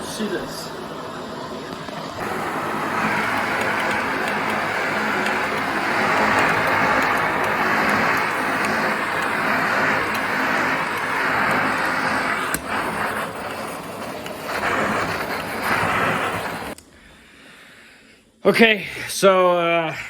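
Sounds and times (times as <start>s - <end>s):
vacuum cleaner running: 0.0s - 16.8s.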